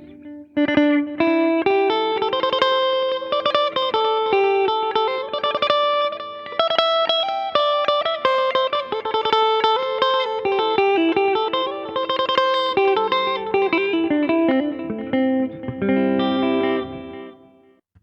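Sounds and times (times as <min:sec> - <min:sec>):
electric guitar picked notes: 0:00.0 - 0:17.8.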